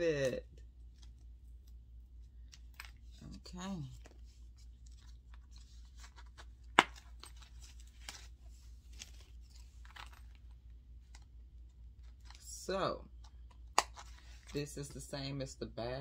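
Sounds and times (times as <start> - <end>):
wallet rustling and crinkling: 0.7 - 14.6.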